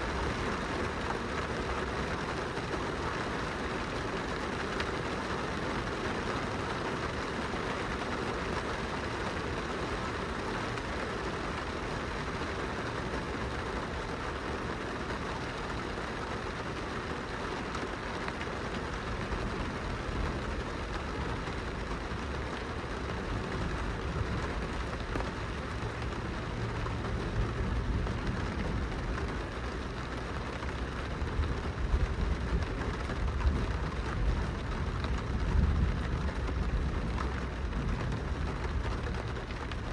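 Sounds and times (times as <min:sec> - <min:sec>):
rain pattering on glass window: 0:00.0 - 0:39.9.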